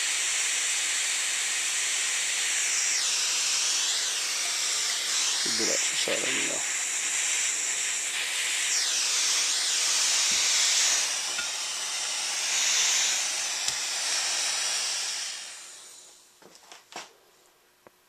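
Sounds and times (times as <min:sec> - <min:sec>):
gas torch flame hissing: 0:00.0 - 0:16.3.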